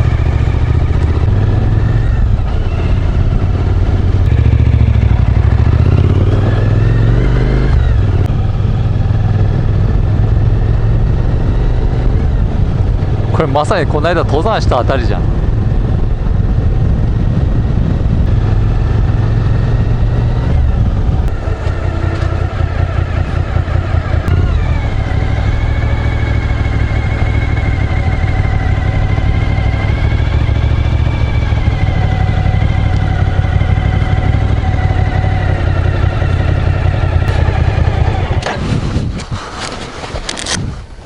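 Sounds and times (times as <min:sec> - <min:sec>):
motorcycle engine running: 0:00.0 - 0:39.1.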